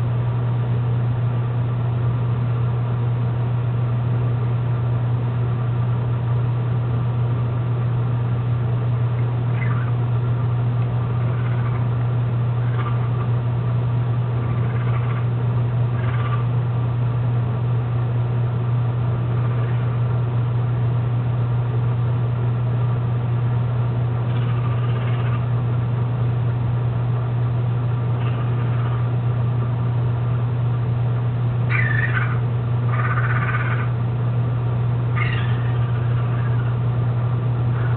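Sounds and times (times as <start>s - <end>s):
loud steady low hum: 0.0s - 37.9s.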